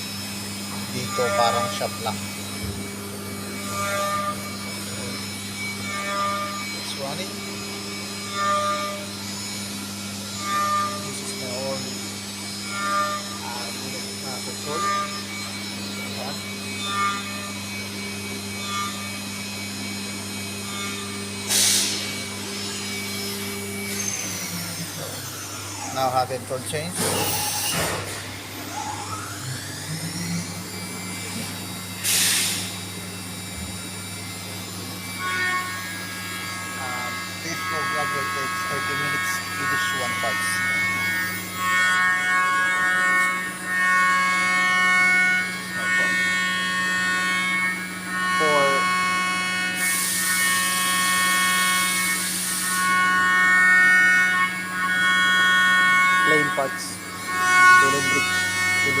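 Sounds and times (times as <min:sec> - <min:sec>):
milling machine humming and whining: 0:00.0 - 0:59.0.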